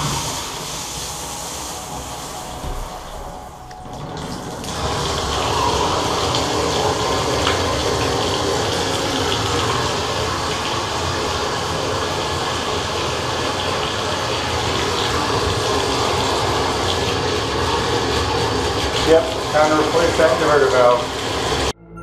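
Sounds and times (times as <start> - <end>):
water gushing from bathtub spout: 0.0 - 21.7.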